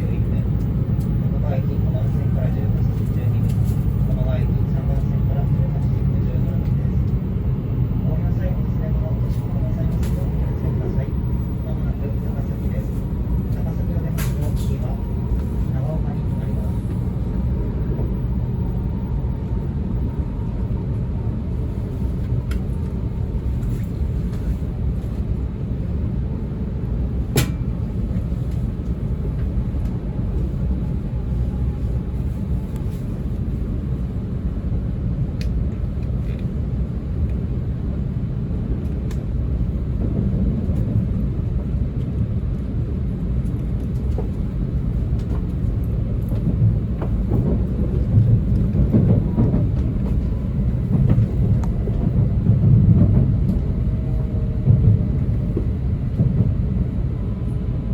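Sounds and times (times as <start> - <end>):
train cabin rumble: 0.0 - 57.9.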